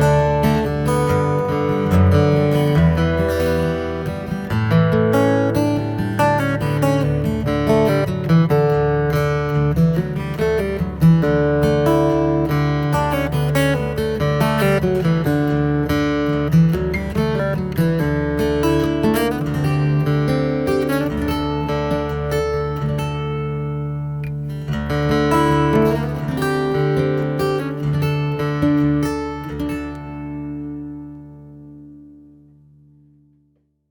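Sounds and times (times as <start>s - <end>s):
acoustic guitar music: 0.0s - 33.8s.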